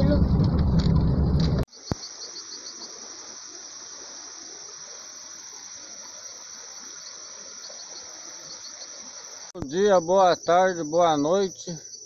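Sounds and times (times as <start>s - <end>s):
insects chorus: 1.7s - 12.0s
rapid insect chirps: 1.7s - 12.0s.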